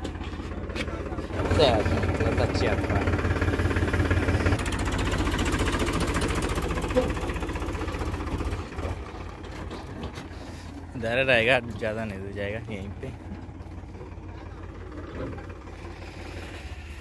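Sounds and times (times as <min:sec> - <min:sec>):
tractor diesel engine chugging: 0:00.0 - 0:17.0.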